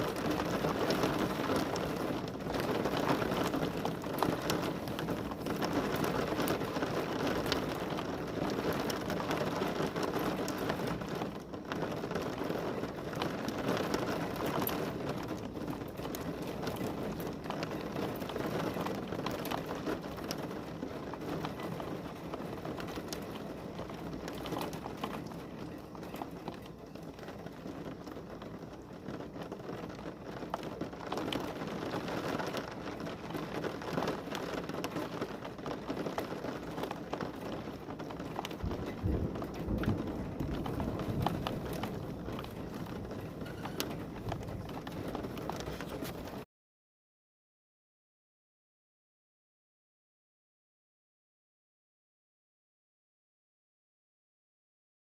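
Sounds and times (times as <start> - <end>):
heavy rain falling: 0.0 - 46.5.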